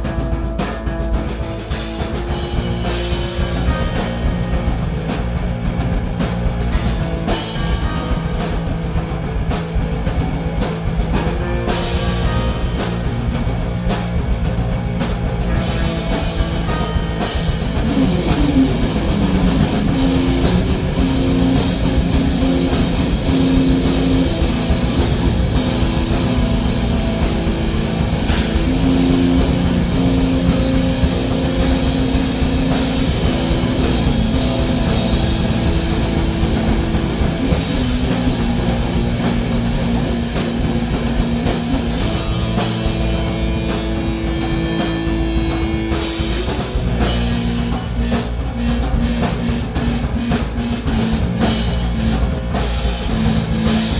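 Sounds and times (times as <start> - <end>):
drum kit: 0.0 - 53.9
electric guitar: 0.0 - 53.9.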